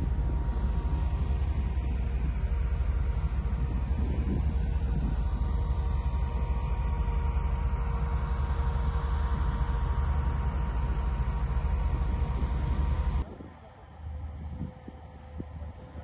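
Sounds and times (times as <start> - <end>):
faint steady whine: 0.0 - 16.0
tracked vehicle engines idling: 0.0 - 16.0.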